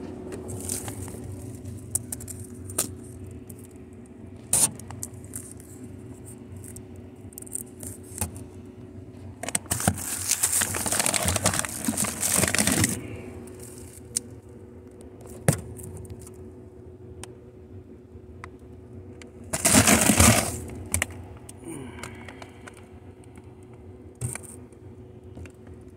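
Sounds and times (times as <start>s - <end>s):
refrigerator humming: 0.0s - 25.9s.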